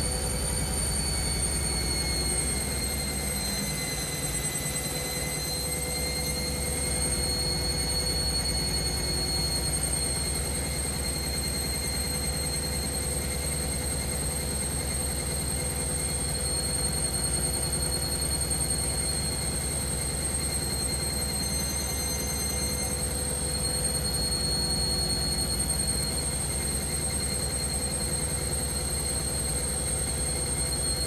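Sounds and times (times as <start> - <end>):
high-pitched whine: 0.0 - 31.0.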